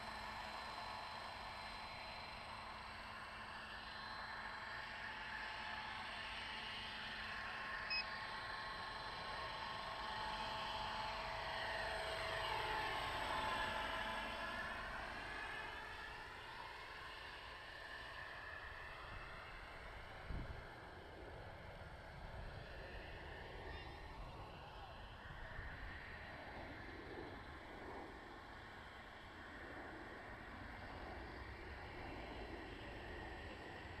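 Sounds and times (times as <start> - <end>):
rc helicopter motor and rotor whine: 0.0 - 34.0.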